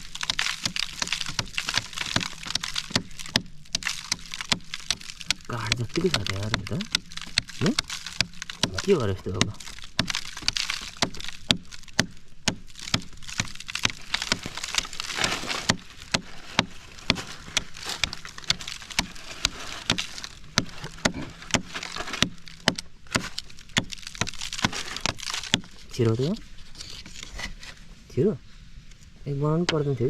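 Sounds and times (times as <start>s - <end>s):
hand tool chipping hard earth: 0.0s - 26.4s.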